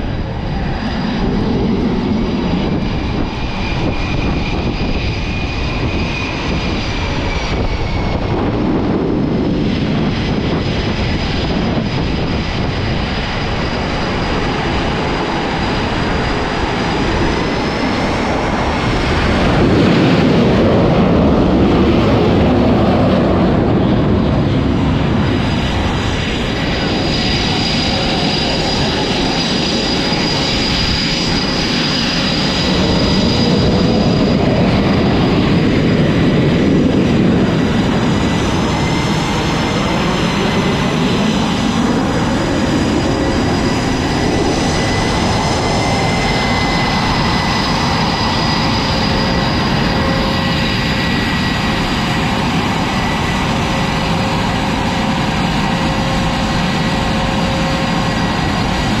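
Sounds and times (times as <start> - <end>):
high turbine whine: 0.0 - 59.0
jet engines roaring: 0.0 - 59.0.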